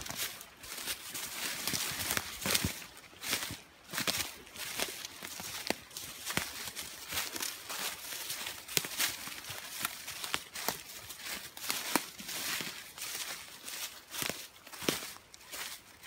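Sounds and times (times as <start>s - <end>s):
footsteps crunching through leaves: 0.0s - 16.0s.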